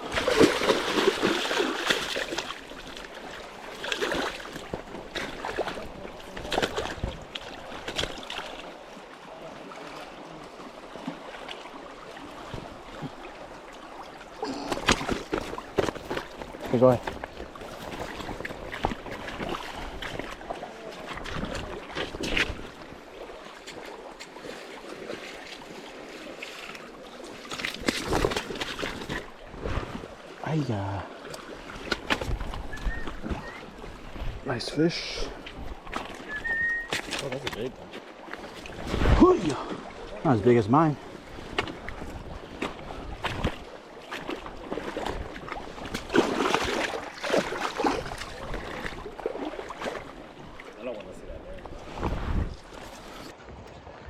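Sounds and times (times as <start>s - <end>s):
flowing river water: 0.0s - 54.0s.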